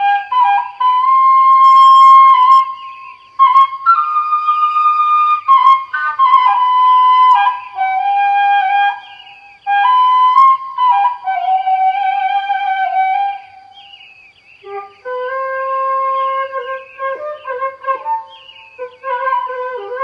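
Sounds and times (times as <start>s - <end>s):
solo flute melody: 0.0s - 14.0s, 14.6s - 20.0s.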